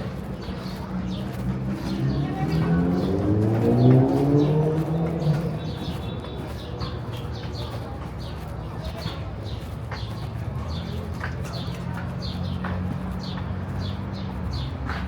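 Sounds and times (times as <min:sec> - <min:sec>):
low city street hum: 0:00.0 - 0:15.0
small birds chirping: 0:00.0 - 0:15.0.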